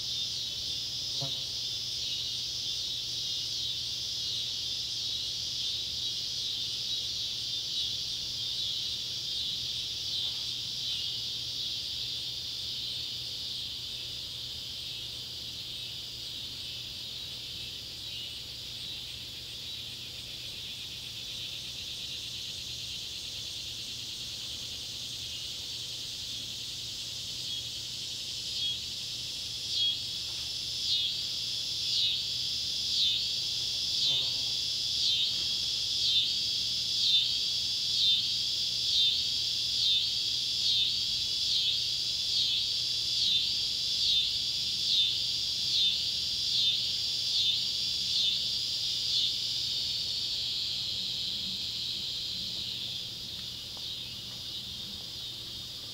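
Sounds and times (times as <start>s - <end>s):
cicadas buzzing: 0.0s - 55.9s.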